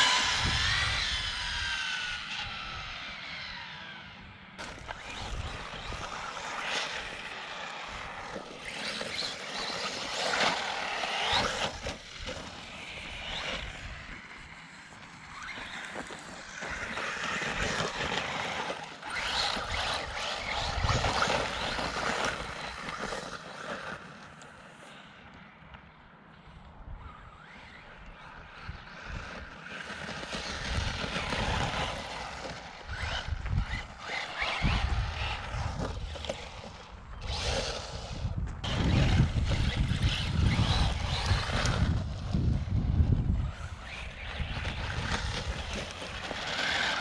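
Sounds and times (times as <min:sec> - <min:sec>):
electric motor whining: 0:00.0 - 0:24.3, 0:27.0 - 0:47.0
drivetrain and tyres rumble: 0:00.0 - 0:24.5, 0:27.4 - 0:47.0.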